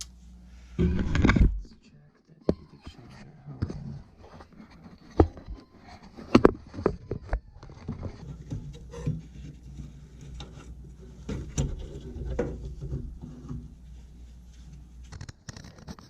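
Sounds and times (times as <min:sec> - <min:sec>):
low steady hum: 0:00.0 - 0:15.4.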